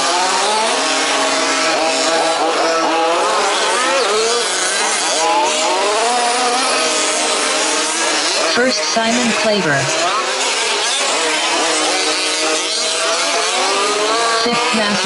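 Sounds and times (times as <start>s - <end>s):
rc car engines revving: 0.0s - 15.0s.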